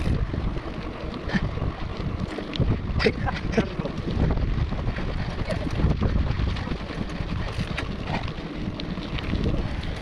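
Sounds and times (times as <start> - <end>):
bike rattling: 0.0 - 10.0
tyres rumbling on road: 0.0 - 10.0
wind buffeting microphone: 0.0 - 10.0.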